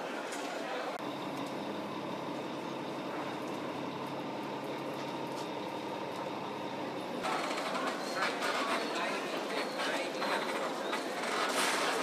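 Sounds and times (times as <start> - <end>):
ferry engines humming: 0.9 - 12.0.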